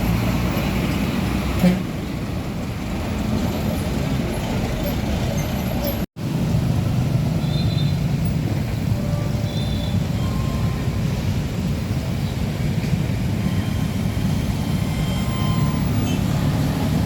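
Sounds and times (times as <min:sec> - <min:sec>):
heavy trucks passing: 0:00.0 - 0:17.0.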